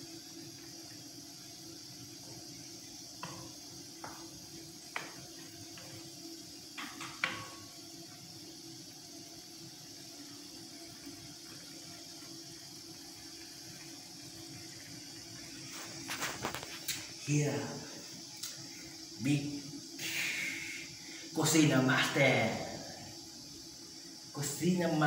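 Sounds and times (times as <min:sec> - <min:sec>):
food hissing in a pan: 0:00.0 - 0:25.0.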